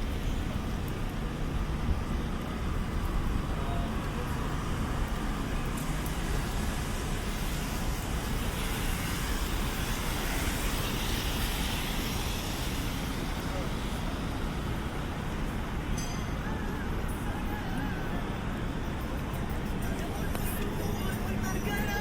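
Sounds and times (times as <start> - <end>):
traffic on wet pavement: 0.0 - 22.0.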